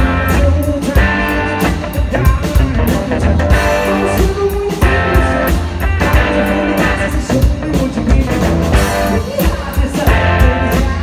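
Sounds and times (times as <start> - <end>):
drum kit beat: 0.0 - 11.0
electric guitar: 0.0 - 11.0.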